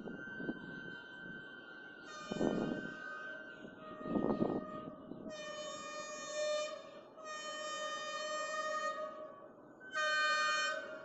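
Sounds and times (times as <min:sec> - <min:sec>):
locomotive horn blasts: 0:02.0 - 0:11.0.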